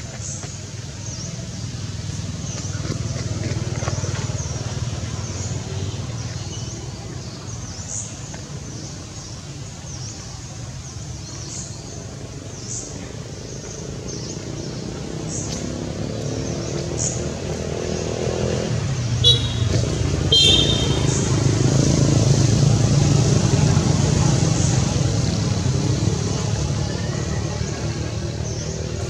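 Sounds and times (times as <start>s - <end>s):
traffic hum: 0.0s - 29.0s
motorbike engine approaching: 0.2s - 29.0s.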